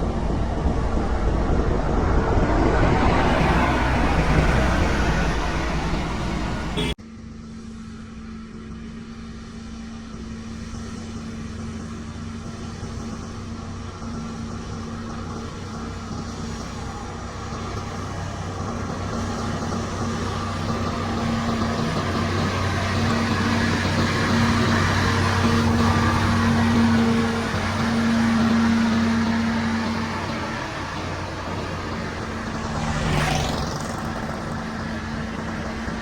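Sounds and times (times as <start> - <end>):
motor grader diesel engine: 0.0 - 36.0.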